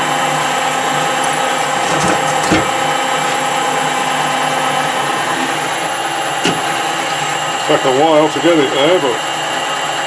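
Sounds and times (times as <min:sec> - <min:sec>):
metal lathe humming: 0:00.0 - 0:10.0.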